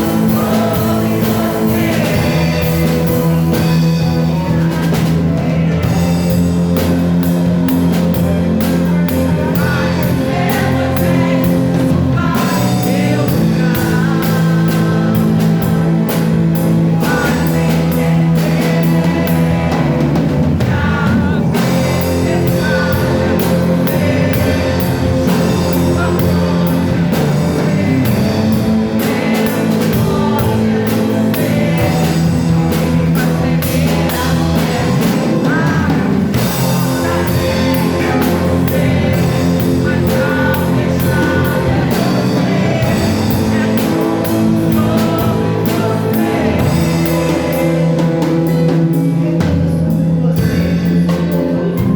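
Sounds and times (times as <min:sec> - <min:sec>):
drum kit: 0:00.0 - 0:51.9
guitar: 0:00.0 - 0:51.9
person singing: 0:00.0 - 0:51.9.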